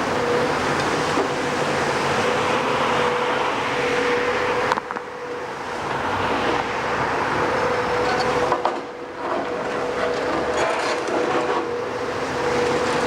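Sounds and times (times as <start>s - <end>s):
construction machine whining: 0.0s - 13.0s.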